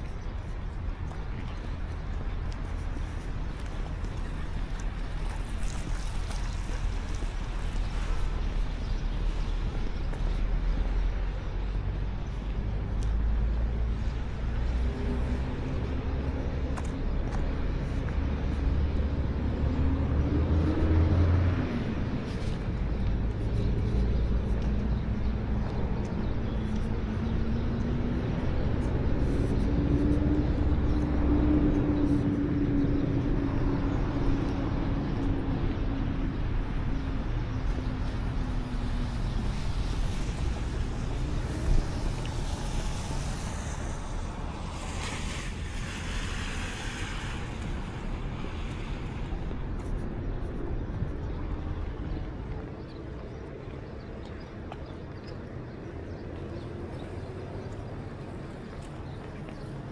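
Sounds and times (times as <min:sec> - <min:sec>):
cars passing: 0:00.0 - 0:59.9
low traffic rumble: 0:00.0 - 0:59.9.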